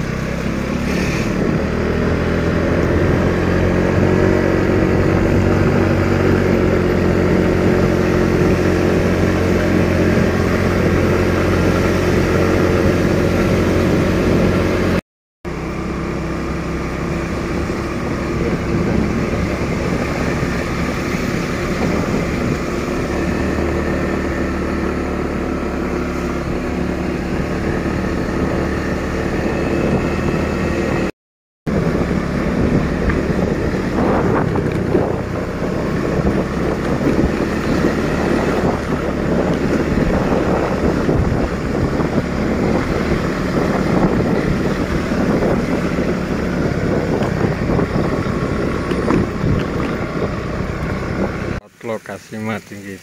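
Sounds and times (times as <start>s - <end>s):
motorcycle engine running: 0.0s - 31.1s, 31.7s - 51.7s
wind buffeting microphone: 1.3s - 15.0s, 16.2s - 31.1s, 31.7s - 51.6s.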